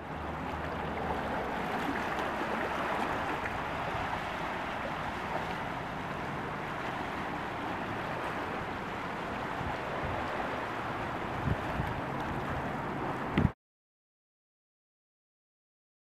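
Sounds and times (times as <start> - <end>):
surf on rocky shore: 0.0 - 13.6
wind rumbling on microphone: 0.0 - 13.6.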